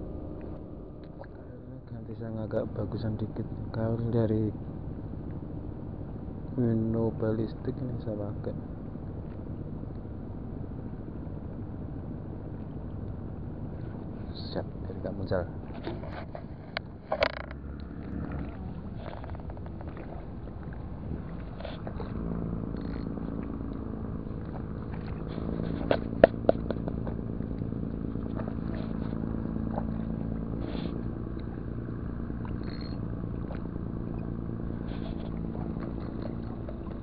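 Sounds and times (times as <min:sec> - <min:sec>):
engine humming: 0:00.0 - 0:37.0.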